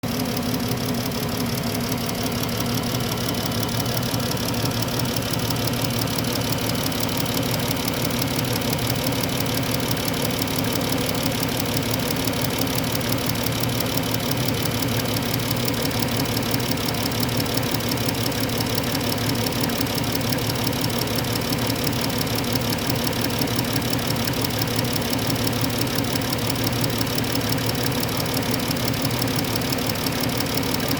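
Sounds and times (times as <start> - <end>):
car engine idling: 0.0 - 30.9
fast even ticking: 0.4 - 30.9.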